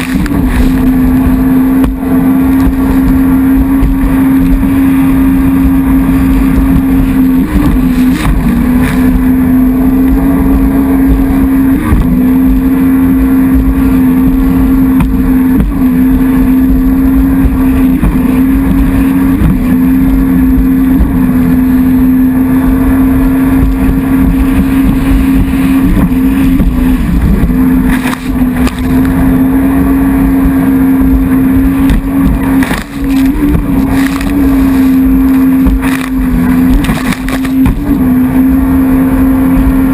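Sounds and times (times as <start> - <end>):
jet ski engine at high revs: 0.0 - 39.9
water and wind noise: 0.0 - 39.9.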